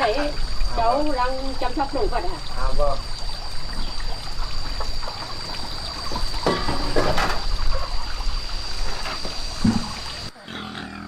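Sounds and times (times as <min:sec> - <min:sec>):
water trickling and pouring: 0:00.0 - 0:10.3.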